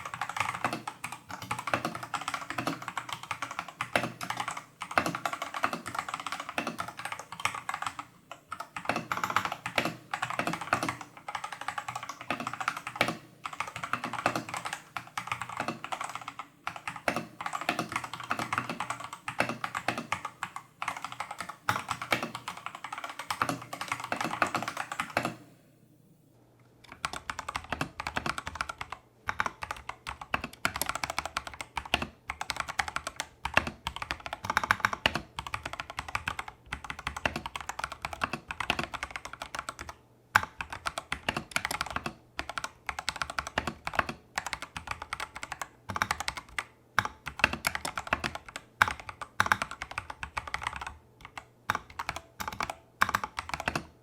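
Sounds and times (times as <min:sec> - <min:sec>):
mechanical keyboard typing: 0:00.0 - 0:25.5, 0:26.8 - 0:54.0.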